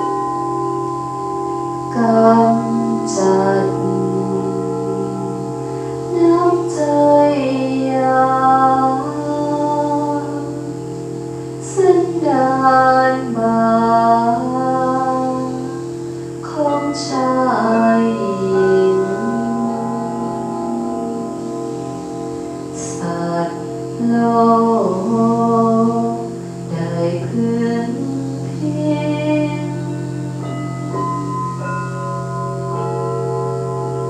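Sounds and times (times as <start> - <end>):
person singing slow melody: 0.0 - 33.8
crystal singing bowls ringing: 0.0 - 34.0.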